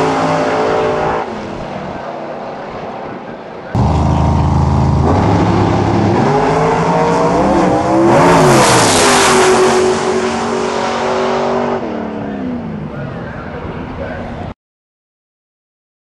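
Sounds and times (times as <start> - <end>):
drag car engines at full throttle: 0.0 - 14.5.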